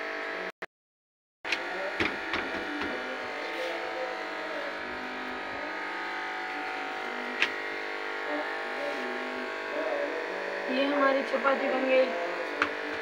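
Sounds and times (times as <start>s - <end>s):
electrical buzzing hum: 1.5s - 13.0s.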